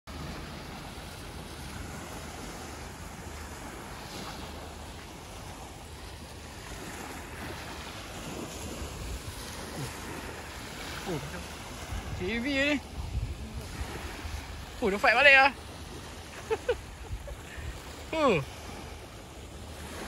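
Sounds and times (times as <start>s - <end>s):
small waves breaking on sand: 0.1s - 20.0s
wind rumbling on microphone: 0.1s - 20.0s.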